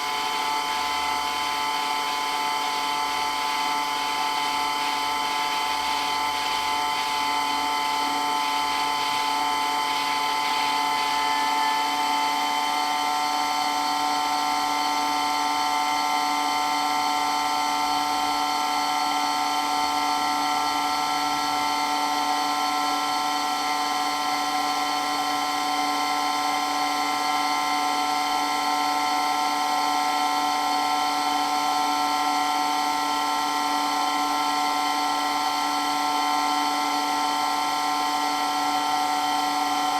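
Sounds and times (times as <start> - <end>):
electric water pump whining: 0.0 - 39.9.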